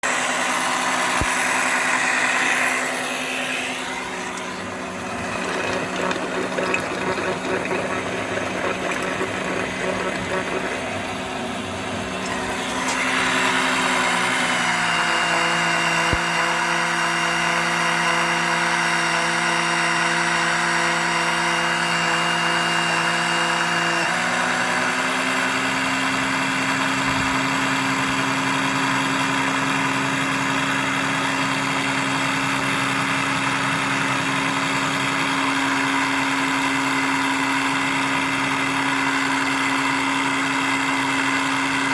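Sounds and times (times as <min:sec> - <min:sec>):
motor running: 0:00.0 - 0:41.9.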